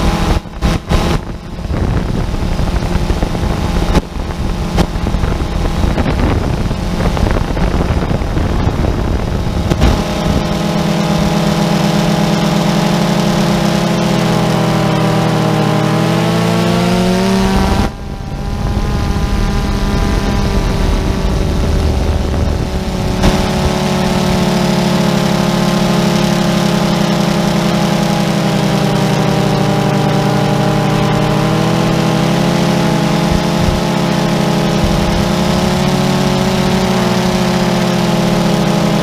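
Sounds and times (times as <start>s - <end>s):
drone motors buzzing: 0.0s - 39.0s.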